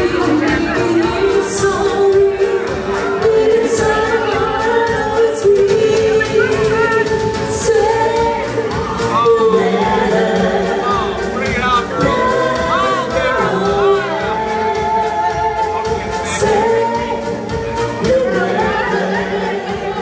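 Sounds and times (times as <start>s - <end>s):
women singing together: 0.0s - 20.0s.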